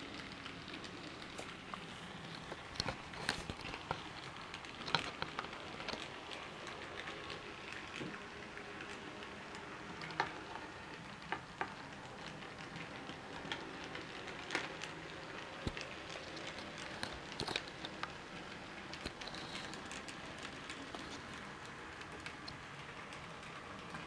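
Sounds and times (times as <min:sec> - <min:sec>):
stick tapping toy locomotive: 0:00.0 - 0:24.0.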